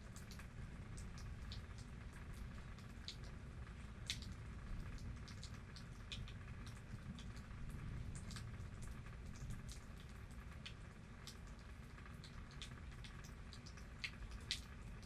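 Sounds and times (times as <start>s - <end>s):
raindrops ticking: 0.0s - 15.0s
steady low rumble: 0.0s - 15.0s.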